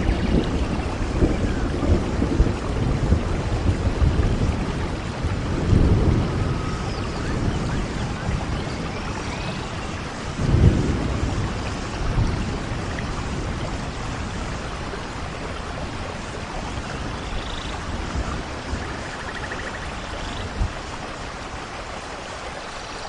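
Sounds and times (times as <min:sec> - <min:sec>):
low roll of thunder: 0:00.0 - 0:21.1
steady rain falling: 0:00.0 - 0:23.0.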